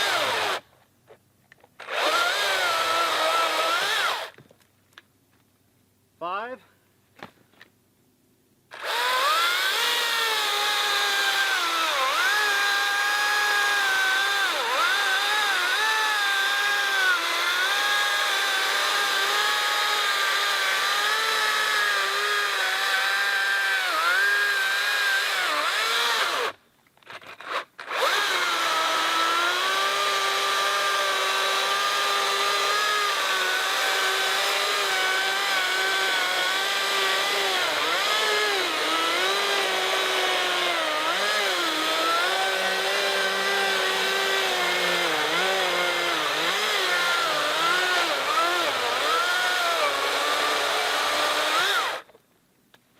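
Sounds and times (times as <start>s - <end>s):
chainsaw cutting log: 0.0s - 0.6s, 1.8s - 4.4s, 8.7s - 52.2s.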